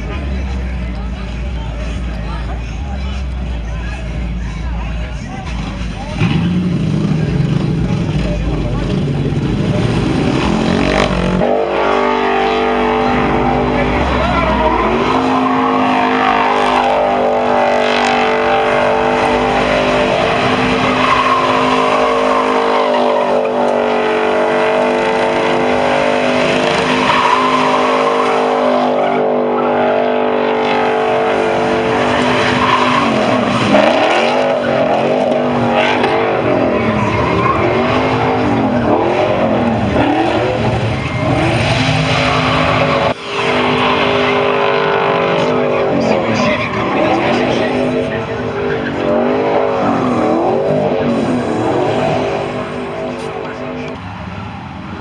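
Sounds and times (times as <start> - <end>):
tires squealing: 0.0 - 55.0
truck engine revving: 0.0 - 55.0.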